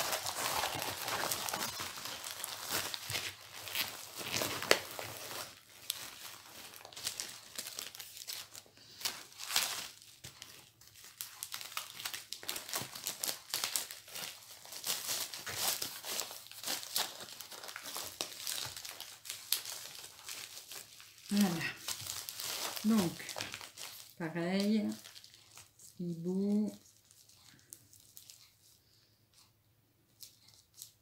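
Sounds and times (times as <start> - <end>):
packaging crinkling and rustling: 0.0 - 29.5, 30.1 - 31.0.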